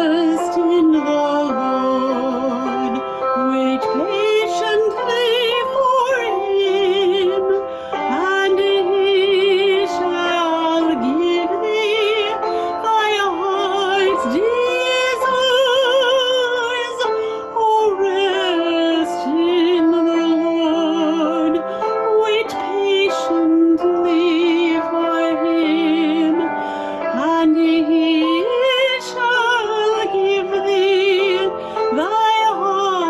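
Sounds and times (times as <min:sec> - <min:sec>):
woman singing operatically: 0:00.0 - 0:33.0.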